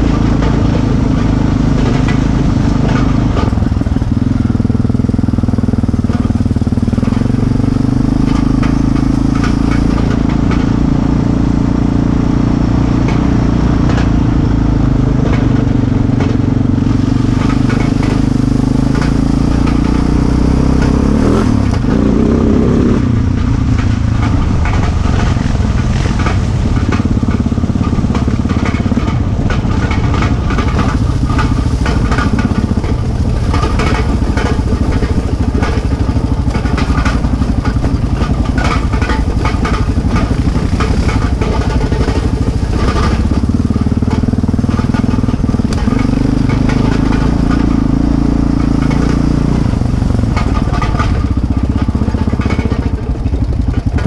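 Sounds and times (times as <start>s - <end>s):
atv engine running: 0.0s - 54.0s
rattles and knocks from bouncing: 0.0s - 54.0s.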